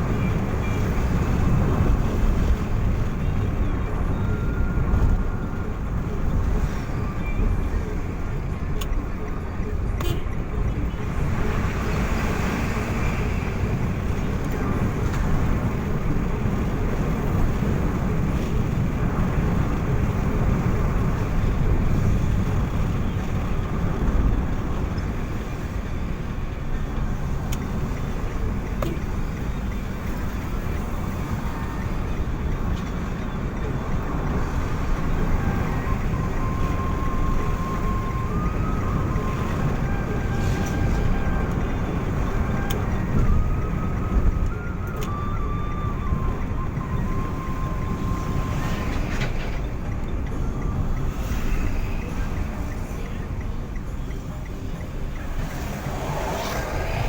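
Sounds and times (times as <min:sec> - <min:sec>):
road vehicle rumble: 0:00.0 - 0:57.0.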